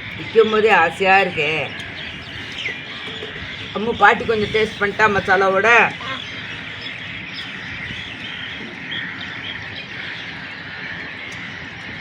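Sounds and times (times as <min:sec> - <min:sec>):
outdoor background noise: 0:00.0 - 0:12.0
small birds chirping: 0:00.0 - 0:12.0.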